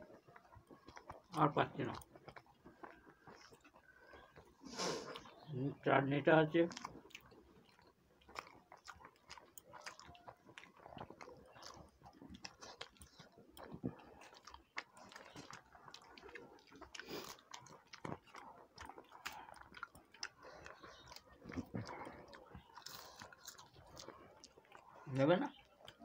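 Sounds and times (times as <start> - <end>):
people chewing food: 0.0 - 26.0.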